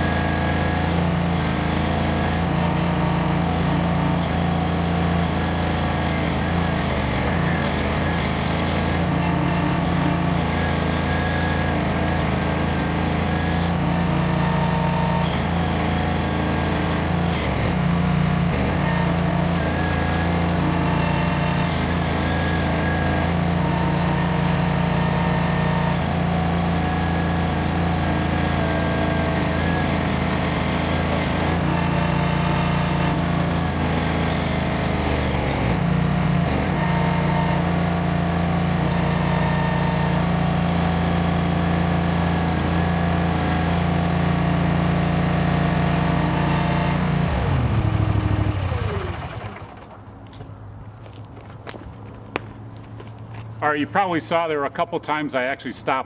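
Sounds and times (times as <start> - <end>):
stump grinder grinding stump: 0.0 - 51.8.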